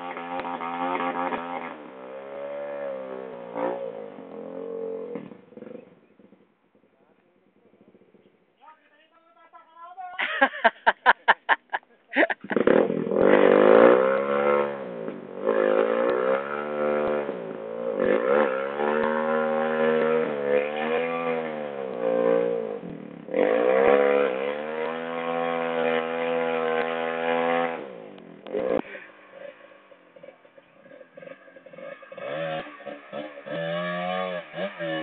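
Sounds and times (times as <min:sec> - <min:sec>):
motorcycle engine revving: 0:00.0 - 0:08.6, 0:12.2 - 0:35.0.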